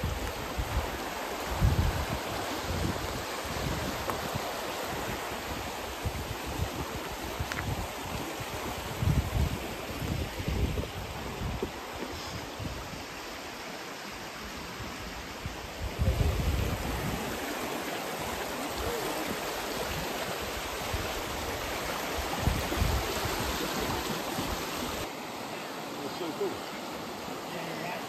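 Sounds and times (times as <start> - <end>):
wind buffeting microphone: 0.0 - 13.1, 14.7 - 25.1
river rushing over rocks: 0.0 - 28.0.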